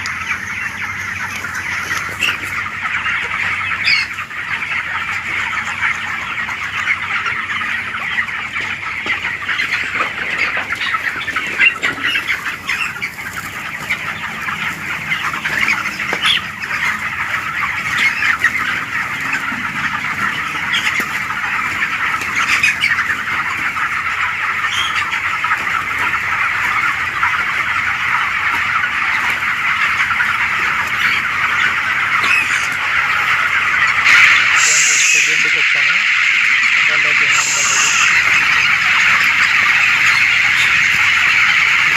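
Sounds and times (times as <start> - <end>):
chickens chirping and peeping: 0.0 - 41.9.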